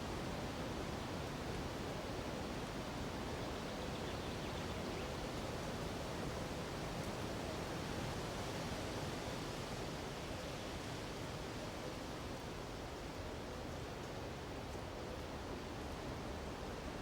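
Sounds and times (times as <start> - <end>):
wind through treetops: 0.0 - 17.0.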